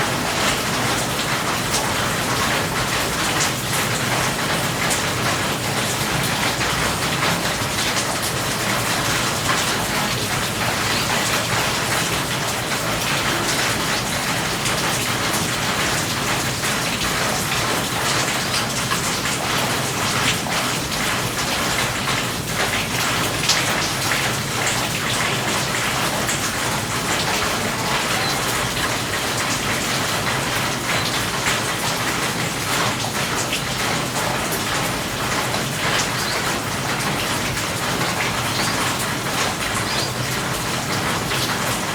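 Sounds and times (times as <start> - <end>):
raindrops striking close by: 0.0 - 41.9
steady rain: 0.0 - 41.9.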